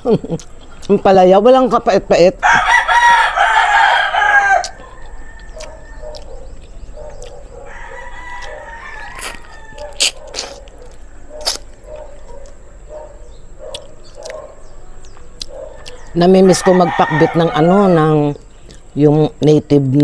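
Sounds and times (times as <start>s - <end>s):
rooster crowing: 2.4s - 18.4s.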